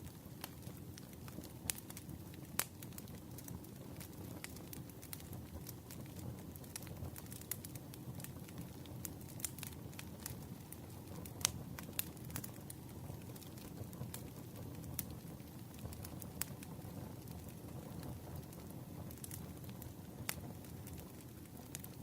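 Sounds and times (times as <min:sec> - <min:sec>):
campfire crackling: 0:00.0 - 0:22.0
fire popping and snapping: 0:00.0 - 0:22.0.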